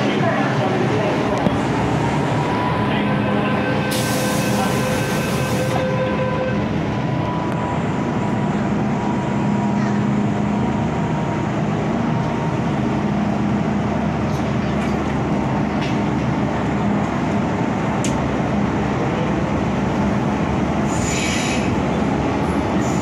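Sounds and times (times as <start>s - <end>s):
train wheels and motors rumbling: 0.0s - 23.0s.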